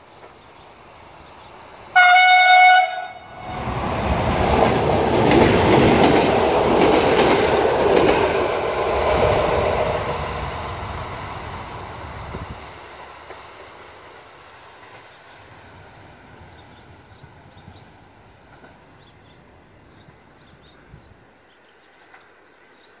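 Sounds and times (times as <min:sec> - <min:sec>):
diesel train engine rumble: 0:00.1 - 0:21.2.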